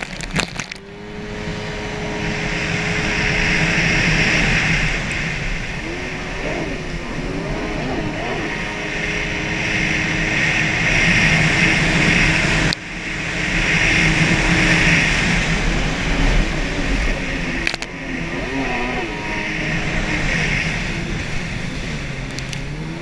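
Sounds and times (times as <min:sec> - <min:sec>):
jet ski engine running hard: 0:00.0 - 0:23.0
rushing water: 0:00.0 - 0:23.0
wind noise: 0:00.0 - 0:23.0.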